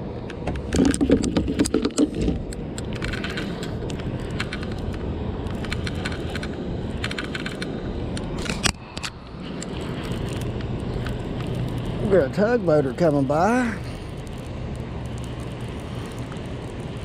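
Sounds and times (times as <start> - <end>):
steady low rumble: 0.0 - 17.0
fishing tackle clicking and rattling: 0.8 - 12.2, 13.8 - 17.0.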